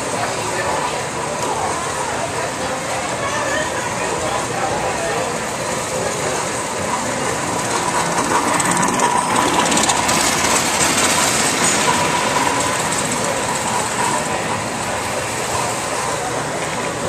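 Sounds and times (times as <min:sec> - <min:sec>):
hall noise: 0:00.0 - 0:17.0
model train wheels clicking: 0:00.0 - 0:17.0.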